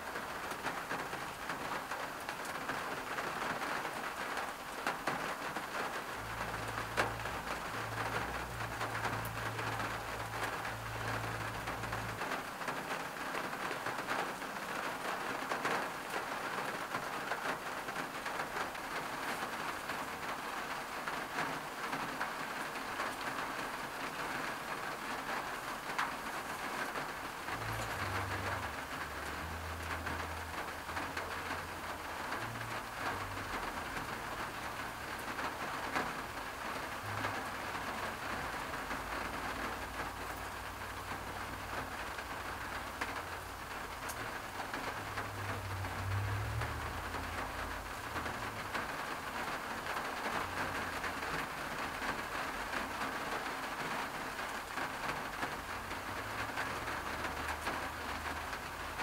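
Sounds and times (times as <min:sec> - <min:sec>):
rain on car windshield: 0:00.0 - 0:59.0.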